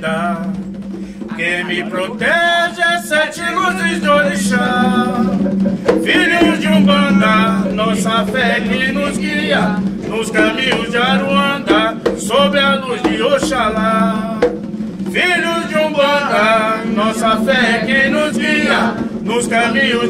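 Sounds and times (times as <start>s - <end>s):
hand drums: 0.0s - 20.0s
man singing: 0.0s - 20.0s.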